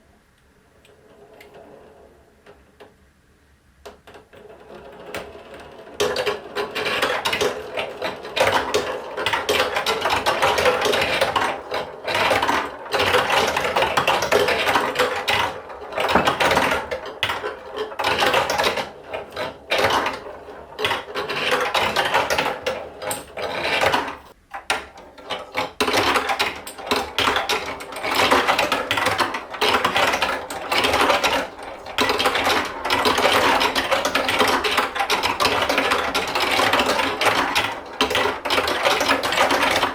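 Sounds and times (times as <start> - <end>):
marbles clattering on plastic track: 3.8 - 39.9
geared mechanism whirring: 4.4 - 39.9.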